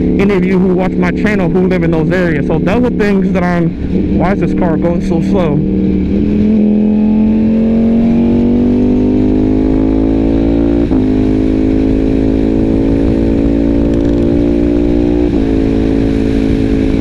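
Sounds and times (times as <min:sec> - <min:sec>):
motorcycle engine accelerating: 0:00.0 - 0:17.0
wind rumble: 0:00.0 - 0:17.0.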